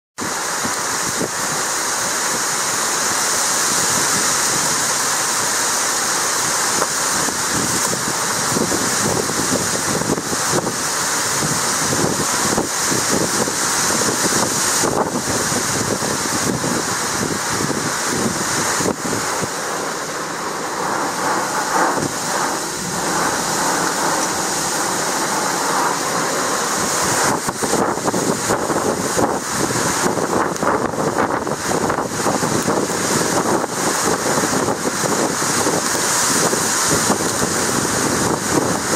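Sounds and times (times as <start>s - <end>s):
wind buffeting microphone: 0.2s - 5.6s, 6.3s - 38.9s
heavy rain and wind rushing: 0.2s - 38.9s.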